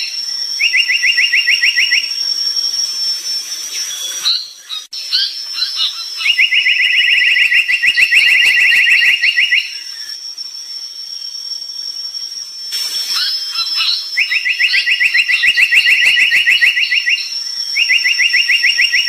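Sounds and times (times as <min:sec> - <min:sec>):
bird whistling and trilling: 0:00.0 - 0:19.0
steady high-pitched whine: 0:00.0 - 0:19.0.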